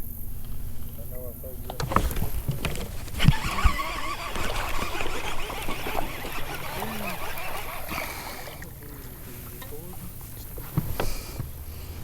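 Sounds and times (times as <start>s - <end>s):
birds calling in chorus: 0.0s - 11.8s.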